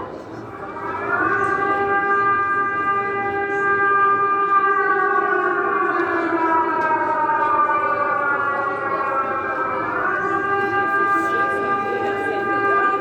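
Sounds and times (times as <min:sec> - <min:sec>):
air raid siren wailing: 0:00.0 - 0:13.0.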